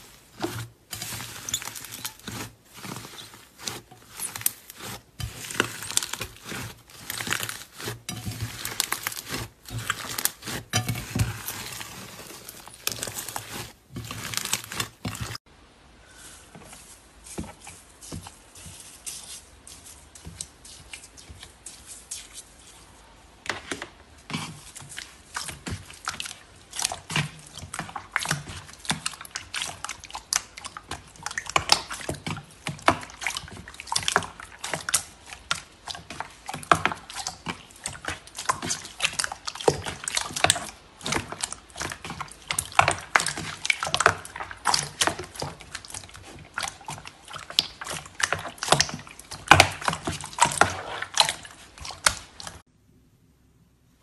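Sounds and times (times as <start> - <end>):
slime squishing by hand: 0.0 - 15.4, 24.2 - 52.7.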